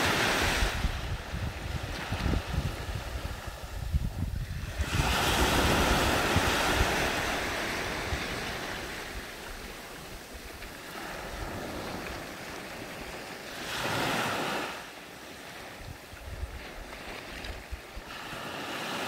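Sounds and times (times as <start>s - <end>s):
small waves breaking on beach: 0.0s - 19.0s.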